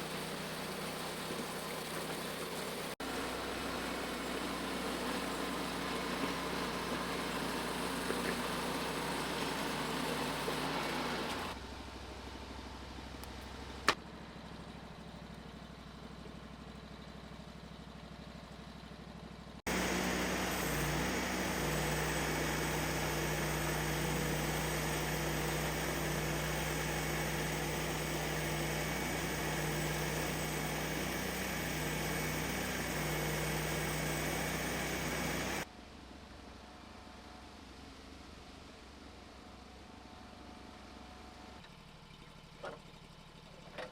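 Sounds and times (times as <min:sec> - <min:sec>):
sawmill engine running: 0:00.0 - 0:35.7.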